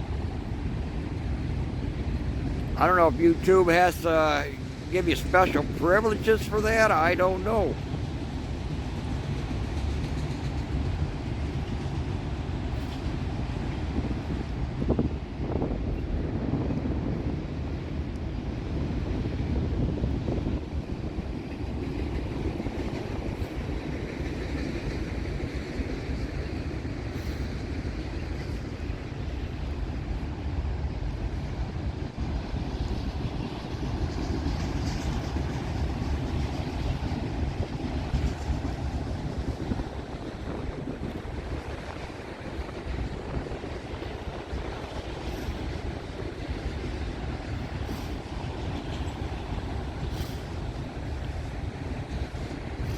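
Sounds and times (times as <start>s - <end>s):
freight train wheels rumbling on rail: 0.0s - 52.9s
wind buffeting microphone: 0.0s - 52.9s.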